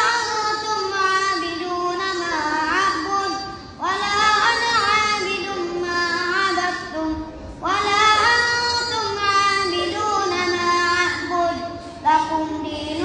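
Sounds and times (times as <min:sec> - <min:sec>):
boy chanting recitation: 0:00.0 - 0:13.0.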